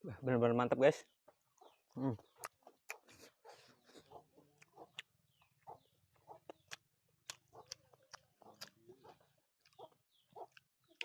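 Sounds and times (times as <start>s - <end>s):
faint chickens clucking: 1.0s - 11.0s
mouth chewing clicks: 1.5s - 3.4s, 4.0s - 11.0s.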